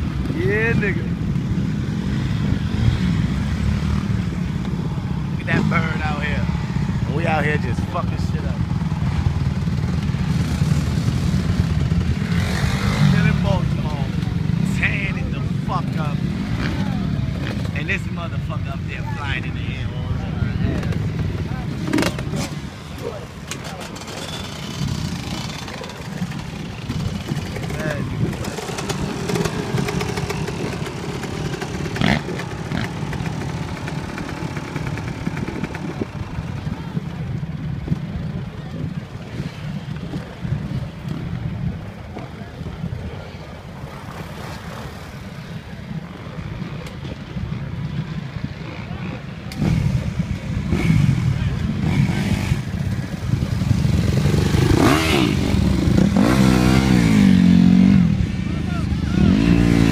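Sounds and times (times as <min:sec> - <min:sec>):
dirt bike engines idling and revving: 0:00.0 - 0:59.9.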